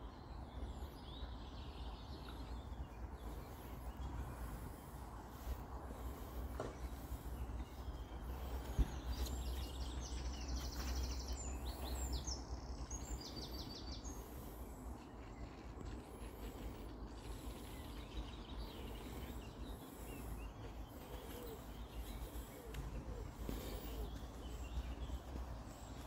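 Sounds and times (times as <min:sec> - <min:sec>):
songbirds singing trills: 0:00.0 - 0:26.0
steady low rumble: 0:00.1 - 0:26.0.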